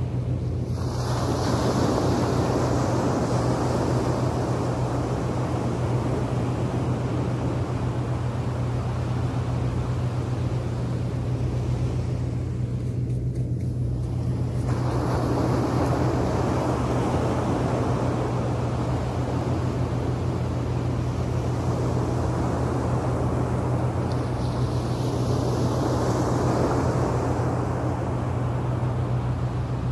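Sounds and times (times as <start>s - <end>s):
surf washing on sand: 0.0s - 29.9s
low rumble: 2.0s - 29.9s.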